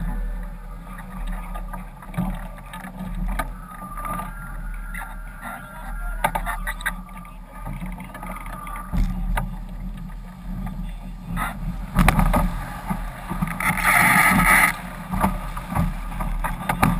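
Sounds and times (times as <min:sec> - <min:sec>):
water rushing: 0:00.0 - 0:16.9
wind buffeting: 0:00.0 - 0:16.9.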